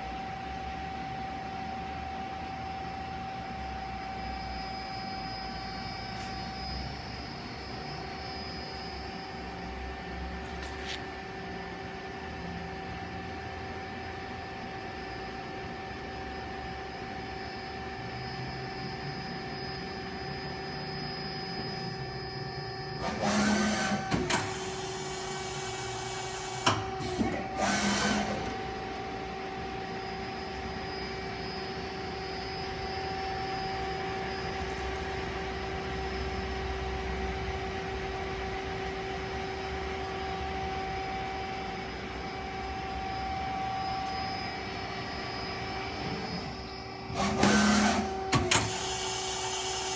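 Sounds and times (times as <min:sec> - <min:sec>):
machine hum with held tones: 0:00.0 - 0:49.9.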